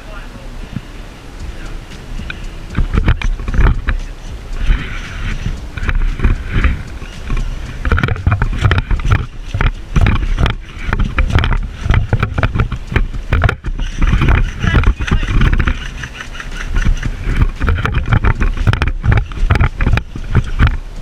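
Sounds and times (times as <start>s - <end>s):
wind rumble on microphone: 0.0s - 21.0s
scattered knocks: 2.2s - 21.0s.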